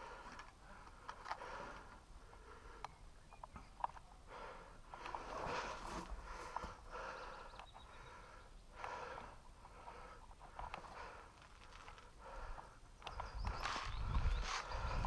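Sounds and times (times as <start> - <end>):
person breathing: 0.0 - 3.0, 4.2 - 13.5.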